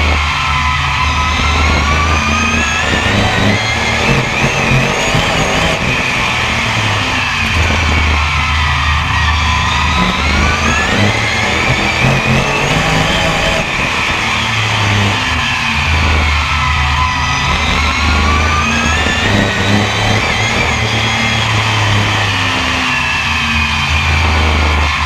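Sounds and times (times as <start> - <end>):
race car engine revving: 0.0 - 25.0.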